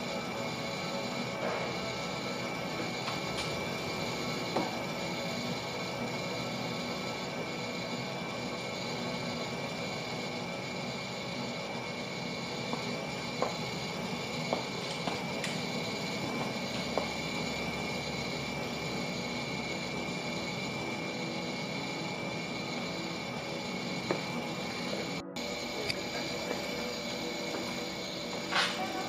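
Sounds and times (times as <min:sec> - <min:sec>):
drum coffee roaster running: 0:00.0 - 0:29.0.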